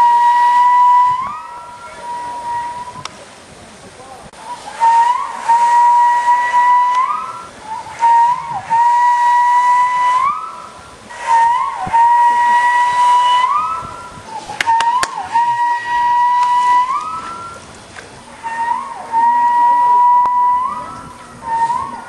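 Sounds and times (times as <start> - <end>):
walrus whistling: 0.0 - 3.1, 4.4 - 22.0.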